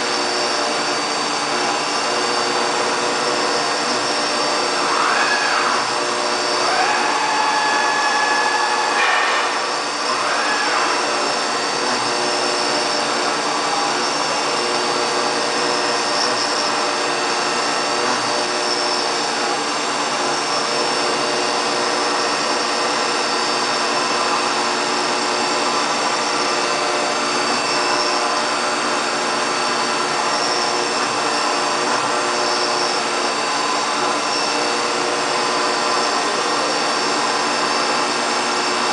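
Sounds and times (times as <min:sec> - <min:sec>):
high spindle whine: 0:00.0 - 0:38.9
mill cutting metal: 0:00.0 - 0:38.9.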